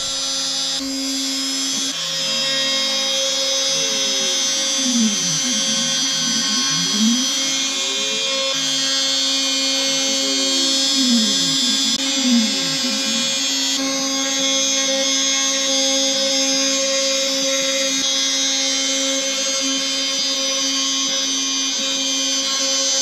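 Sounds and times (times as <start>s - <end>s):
router spindle whining: 0.0s - 23.0s.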